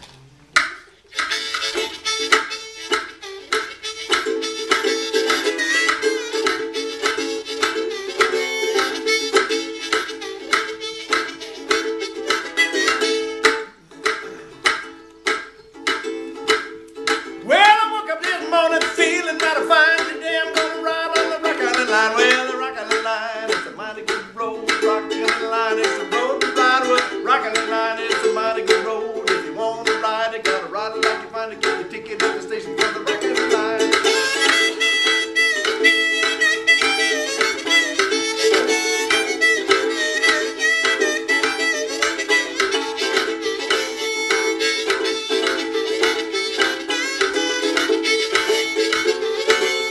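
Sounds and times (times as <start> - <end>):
ukulele strumming: 0.0 - 49.9
harmonica playing: 0.9 - 49.9.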